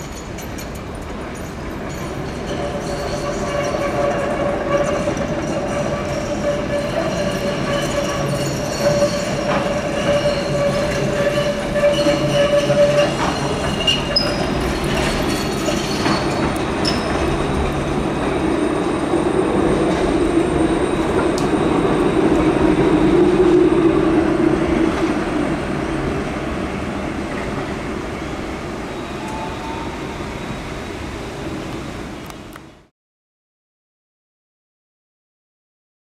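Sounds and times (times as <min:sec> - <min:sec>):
tram wheel squeals: 0:00.0 - 0:32.5
tram rumbling past: 0:00.0 - 0:32.9.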